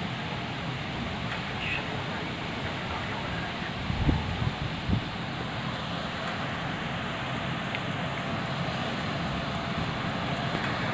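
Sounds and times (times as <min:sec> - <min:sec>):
rain falling: 0:00.0 - 0:10.9
wind rumbling on microphone: 0:01.0 - 0:10.9.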